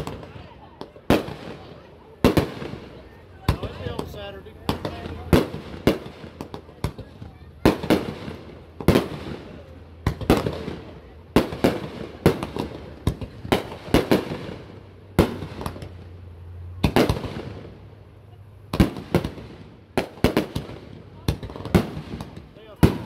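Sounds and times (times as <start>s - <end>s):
fireworks bursting with echoing rumble: 0.0s - 23.0s.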